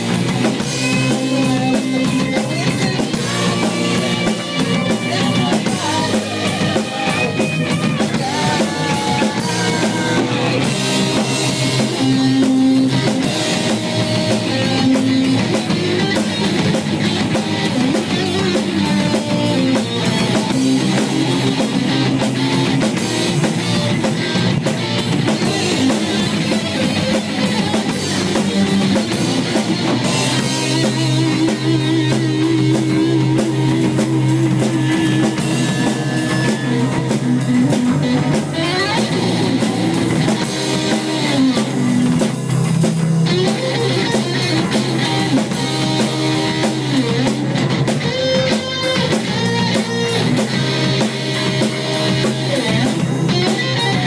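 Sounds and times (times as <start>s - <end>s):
drum kit: 0.0s - 54.0s
electric guitars: 0.0s - 54.0s.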